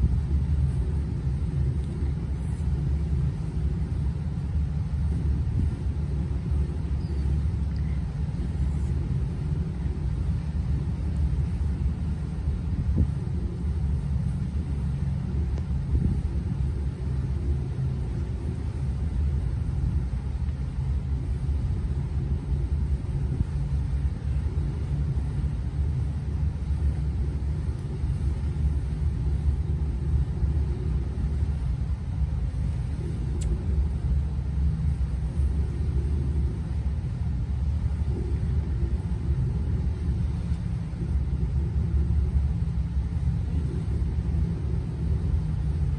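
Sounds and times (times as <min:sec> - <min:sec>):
boat engines rumbling: 0:00.0 - 0:45.9.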